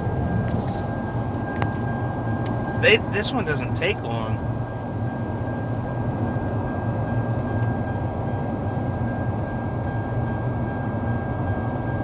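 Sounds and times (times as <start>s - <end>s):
car cabin drone: 0.0s - 12.0s.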